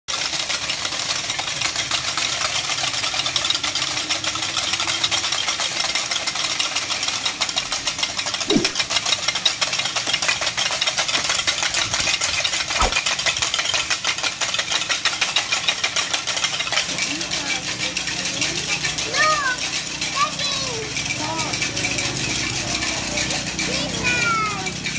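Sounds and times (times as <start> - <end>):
small engine running: 0.1 - 24.9.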